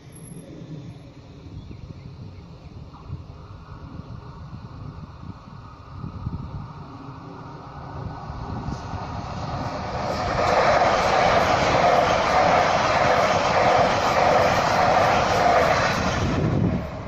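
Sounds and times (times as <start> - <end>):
passenger train passing: 2.5 - 17.0.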